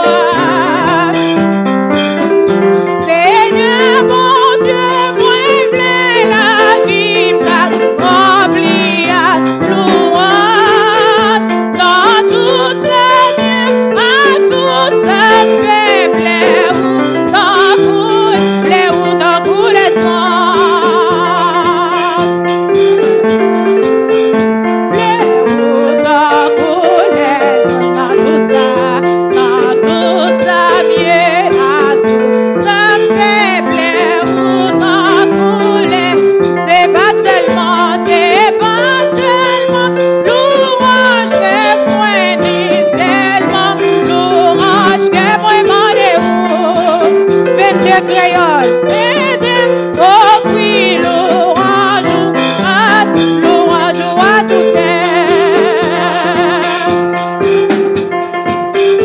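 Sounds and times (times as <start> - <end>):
electric keyboard chords and bass: 0.0 - 59.0.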